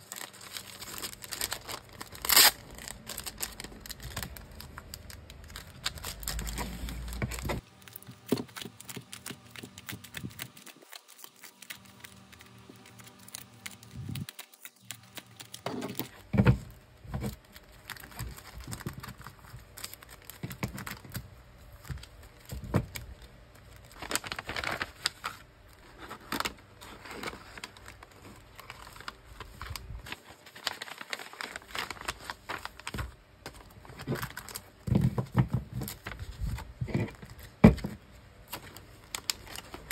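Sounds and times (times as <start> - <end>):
plastic crinkling: 0.0 - 37.6, 38.5 - 39.9.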